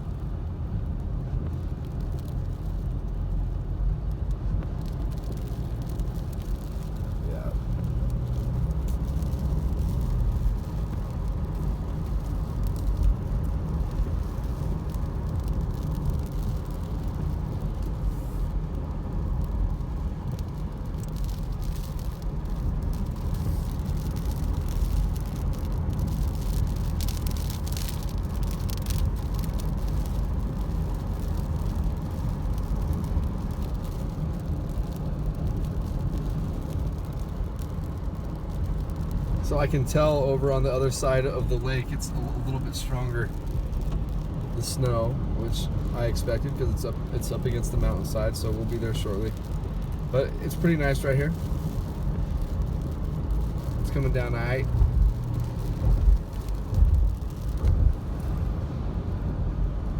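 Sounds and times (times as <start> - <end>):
car engine and tyres rumble: 0.0 - 59.9.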